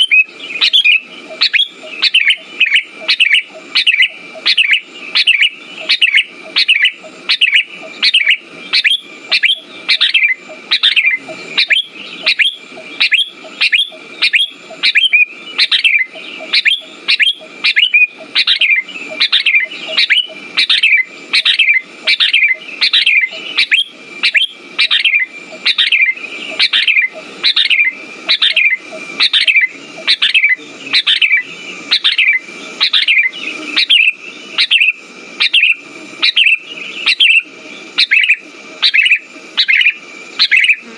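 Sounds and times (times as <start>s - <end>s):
bulbul calls repeating: 0.0s - 40.9s.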